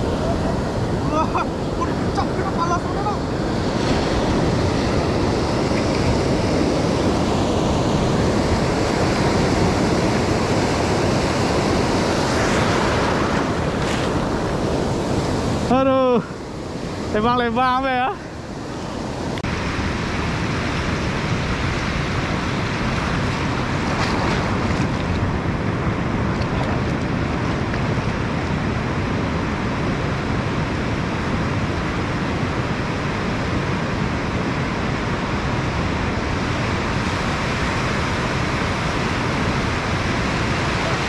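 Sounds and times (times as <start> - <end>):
ocean surf breaking over rocks: 0.0 - 41.0.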